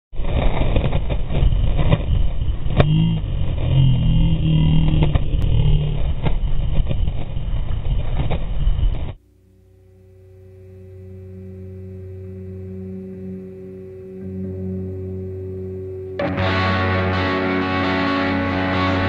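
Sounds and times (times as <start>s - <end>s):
low drone: 0.8s - 19.0s.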